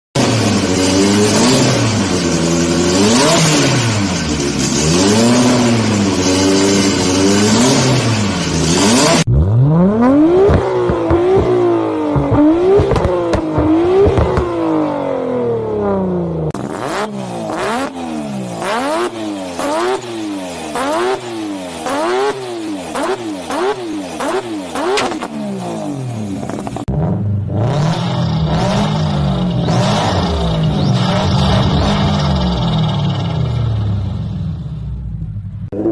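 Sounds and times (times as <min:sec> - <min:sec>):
engine crackles: 0:00.2 - 0:15.3, 0:16.5 - 0:35.9
car engines revving: 0:00.2 - 0:35.9.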